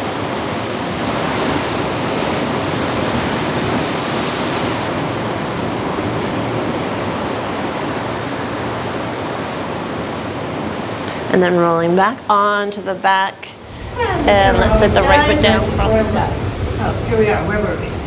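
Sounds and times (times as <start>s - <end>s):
ocean waves breaking on shore: 0.0s - 11.4s, 13.6s - 18.0s.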